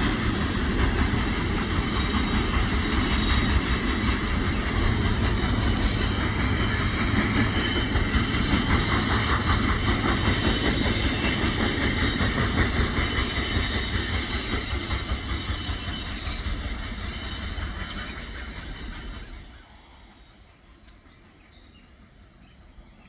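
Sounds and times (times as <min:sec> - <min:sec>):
train wheels clattering on rails: 0:00.0 - 0:23.0.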